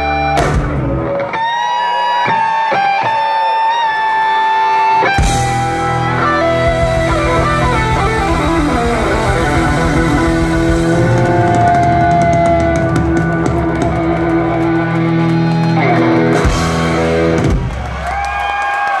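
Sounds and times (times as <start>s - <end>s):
distorted electric guitars: 0.0s - 18.0s
drums: 0.0s - 19.0s.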